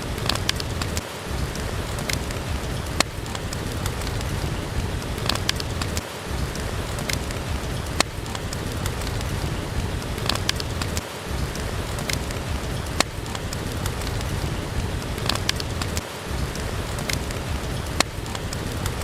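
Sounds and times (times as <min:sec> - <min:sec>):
steady rain: 0:00.0 - 0:19.0
wood fire crackling and popping: 0:00.0 - 0:19.0.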